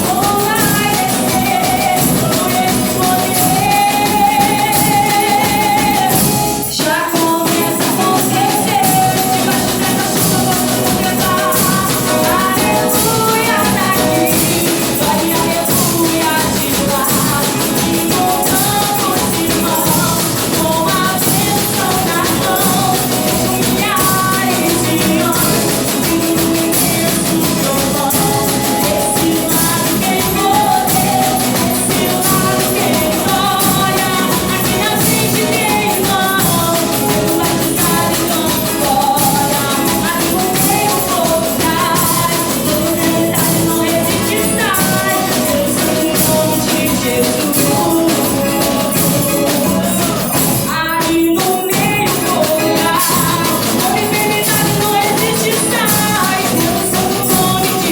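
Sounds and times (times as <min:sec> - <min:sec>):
rhythmic drumming: 0:00.0 - 0:57.9
singing: 0:00.0 - 0:57.9.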